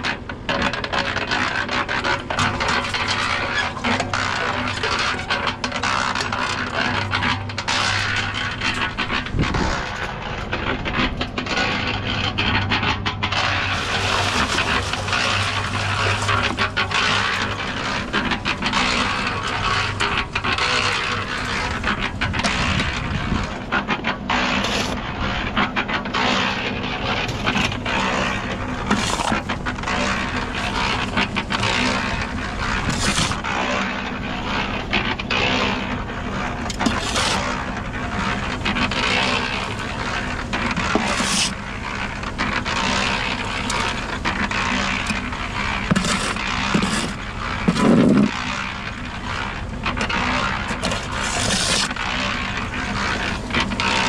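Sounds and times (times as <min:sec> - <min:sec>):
scraping and clattering: 0:00.0 - 0:54.0
machine hum: 0:01.4 - 0:54.0.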